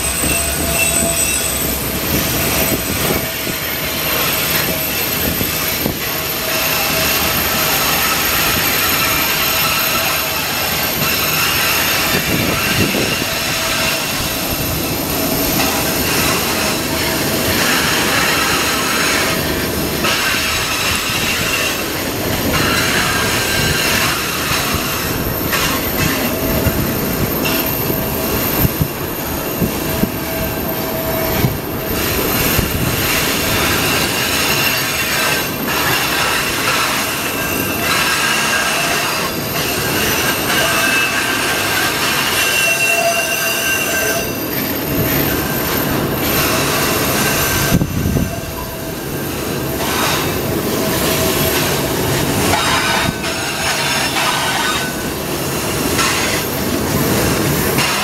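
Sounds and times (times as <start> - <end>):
freight train rolling past: 0.0 - 58.0
train wheels squealing: 0.0 - 58.0.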